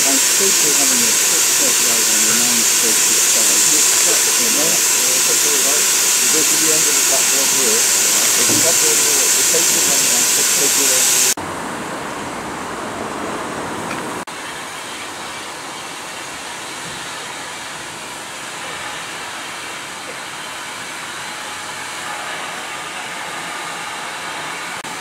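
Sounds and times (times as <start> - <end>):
steam hissing from locomotives: 0.0 - 11.4, 13.0 - 25.0.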